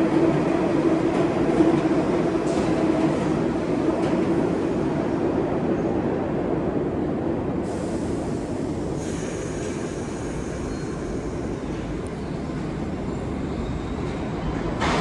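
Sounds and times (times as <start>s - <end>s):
subway train rumbling on track: 0.0s - 15.0s.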